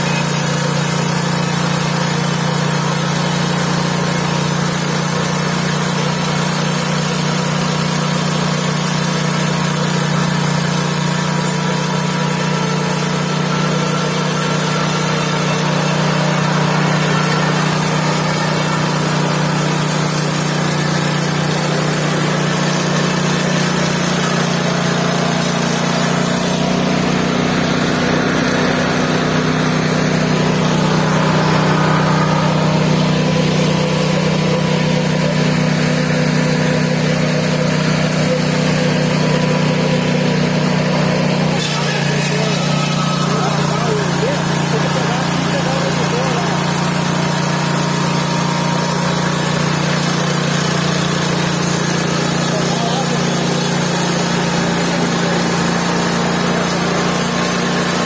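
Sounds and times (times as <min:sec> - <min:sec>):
sawmill engine drone: 0:00.0 - 0:58.0.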